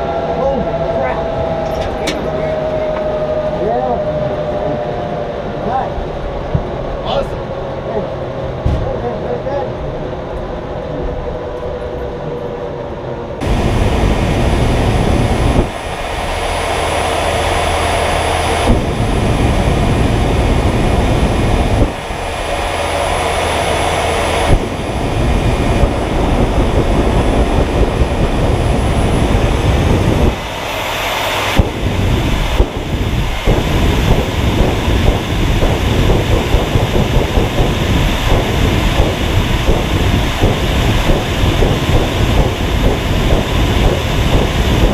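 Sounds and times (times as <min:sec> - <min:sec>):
jet engine roaring: 0:00.0 - 0:44.9.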